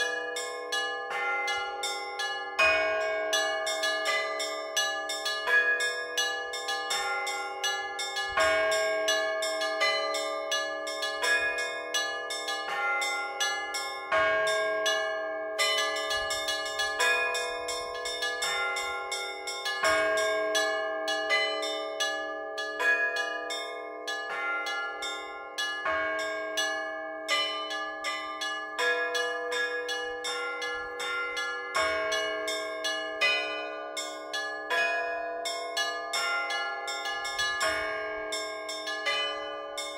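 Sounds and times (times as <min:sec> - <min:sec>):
heavy low bell strikes: 0:00.0 - 0:39.9
middle church bells: 0:00.0 - 0:39.9
small church bells ringing quickly: 0:00.0 - 0:39.9.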